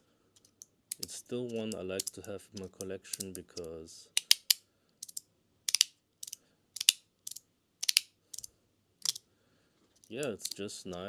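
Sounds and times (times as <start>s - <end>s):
magnetic pieces snapping together: 0.4s - 9.2s, 10.0s - 10.6s.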